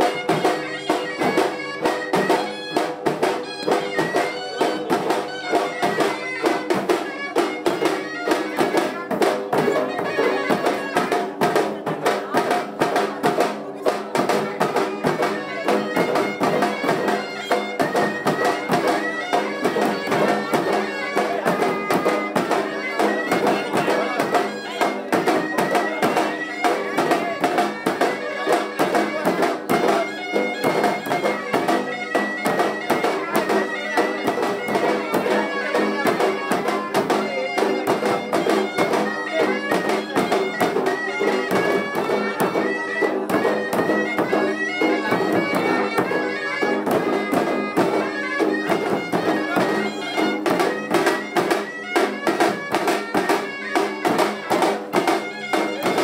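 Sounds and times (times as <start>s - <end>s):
fast continuous drumming: 0.0s - 56.0s.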